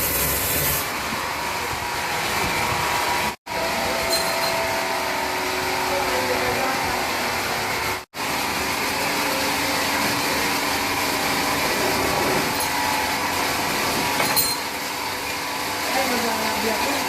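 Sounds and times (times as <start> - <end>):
sawmill machinery noise: 0.0 - 17.0.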